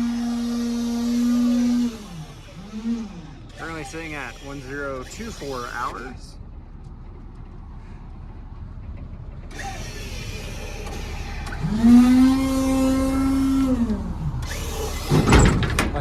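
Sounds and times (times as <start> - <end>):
electric crane motor whining: 0.0 - 16.0
low engine rumble: 0.0 - 16.0.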